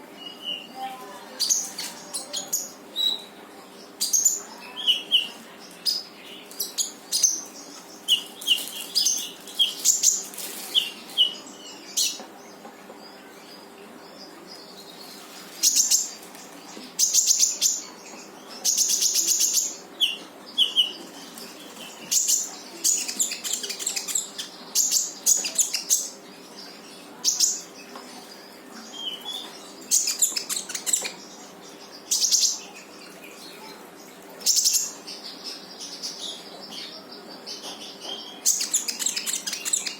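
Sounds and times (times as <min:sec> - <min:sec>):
bird singing with buzzing trills: 0:00.0 - 0:39.9.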